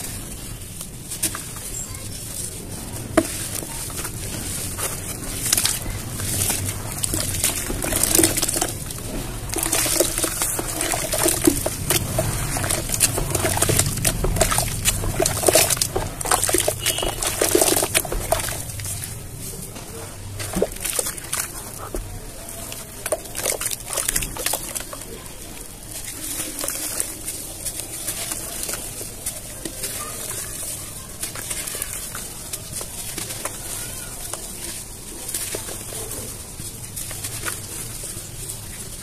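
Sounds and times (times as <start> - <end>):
hands stirring wet cement: 0.0 - 39.0.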